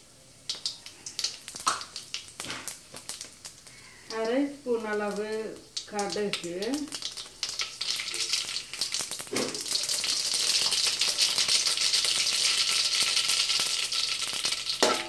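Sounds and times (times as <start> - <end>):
seeds spluttering in hot oil: 0.0 - 15.0.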